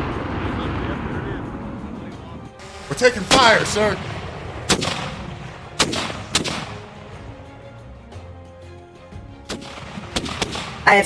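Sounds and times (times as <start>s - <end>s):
cannon blasts with rumble: 0.0s - 8.0s, 9.5s - 11.0s
faint background music: 0.1s - 11.0s.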